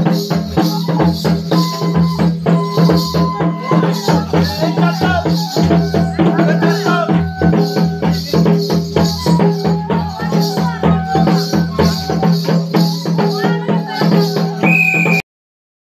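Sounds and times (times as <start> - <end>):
rattling shaker: 0.0 - 14.6
fast percussion beat: 0.0 - 15.2
held melody line: 0.0 - 15.2.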